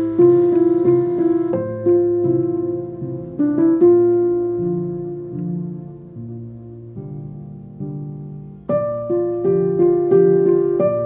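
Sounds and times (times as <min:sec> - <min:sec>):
piano melody: 0:00.0 - 0:11.0.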